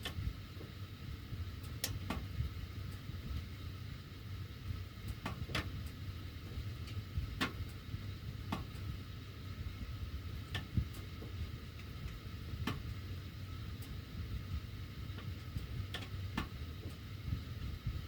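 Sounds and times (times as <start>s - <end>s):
furnace blower rumble: 0.0s - 18.0s
metal ductwork ticking and popping: 0.0s - 18.0s.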